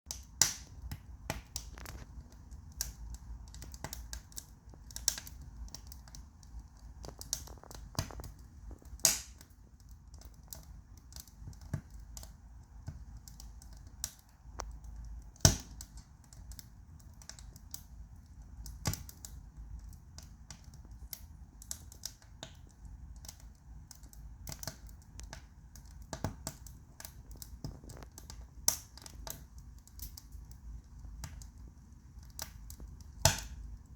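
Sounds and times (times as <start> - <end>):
wood fire crackling: 0.1 - 33.9.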